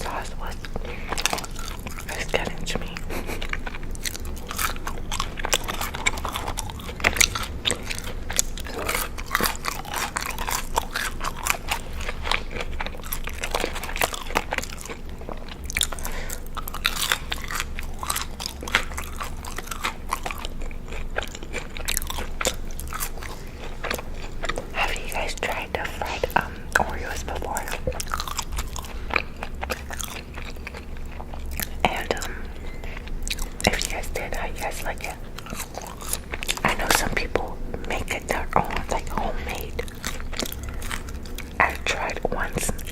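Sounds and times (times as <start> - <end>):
chewing crunchy food: 0.0 - 42.9.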